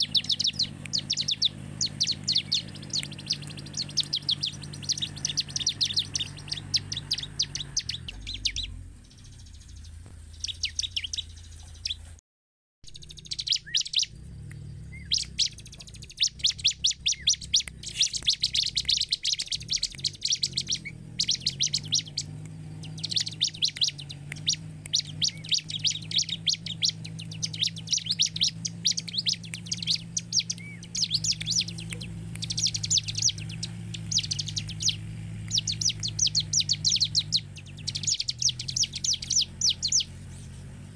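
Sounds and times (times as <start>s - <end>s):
bird trilling chirps: 0.0s - 12.2s, 12.9s - 40.9s.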